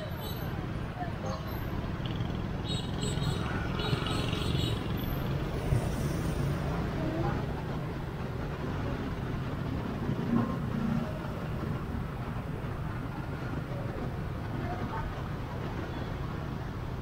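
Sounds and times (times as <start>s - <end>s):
surrounding traffic noise: 0.0s - 17.0s.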